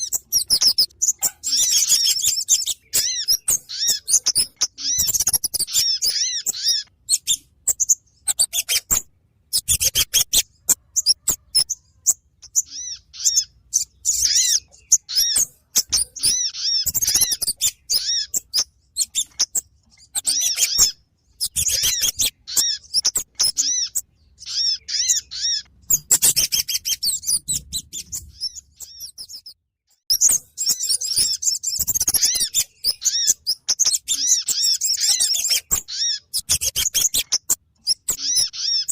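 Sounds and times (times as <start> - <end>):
birds chattering chirps: 0.0 - 38.9.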